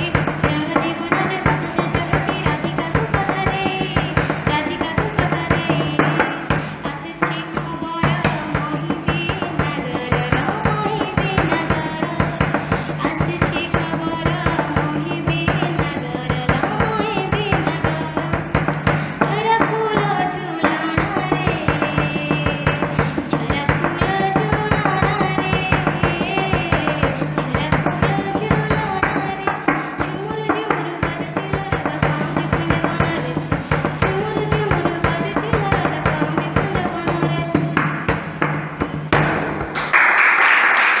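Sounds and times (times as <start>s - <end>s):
child singing: 0.0s - 18.6s, 19.2s - 37.8s
fast hand-drum beats: 0.0s - 40.0s.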